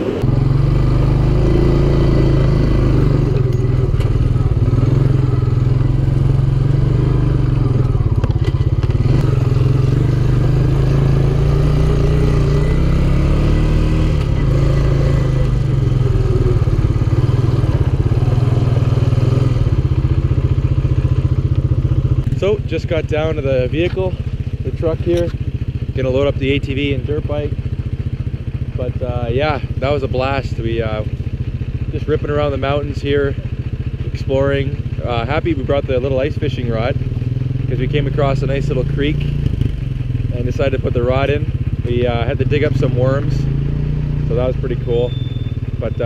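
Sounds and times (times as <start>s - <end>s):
atv engine running: 0.0s - 46.0s.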